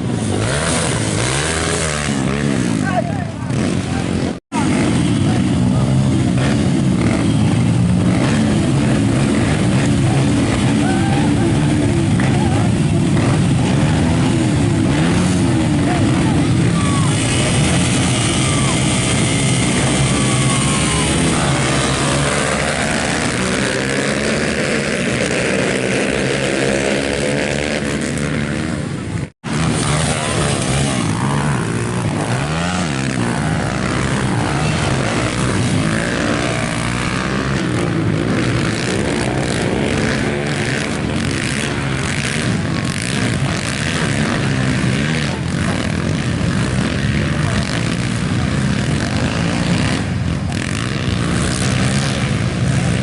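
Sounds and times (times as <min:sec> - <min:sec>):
racing motorcycle engines revving: 0:00.0 - 0:53.0.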